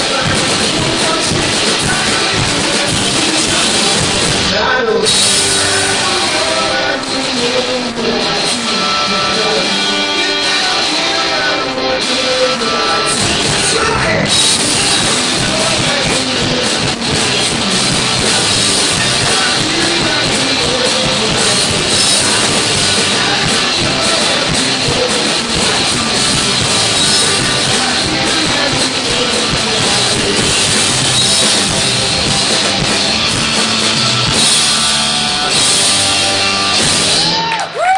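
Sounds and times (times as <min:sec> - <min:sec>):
drum kit: 0:00.0 - 0:37.9
electric guitar: 0:00.0 - 0:37.9.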